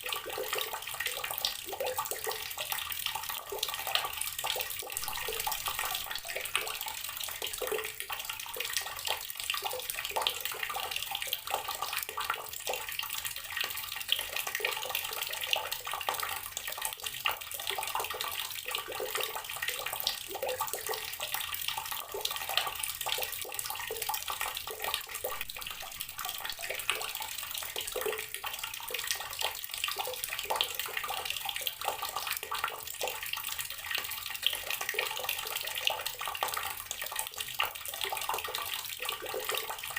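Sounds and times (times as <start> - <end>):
water running from outdoor tap: 0.0 - 39.9.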